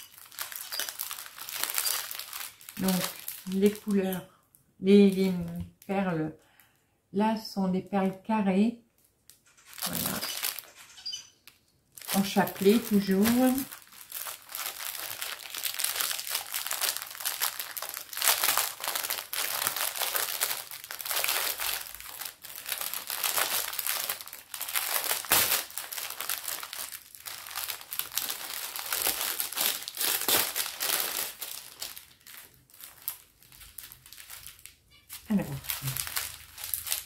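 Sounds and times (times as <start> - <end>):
plastic bags crinkling: 0.0 - 4.2, 9.0 - 37.0.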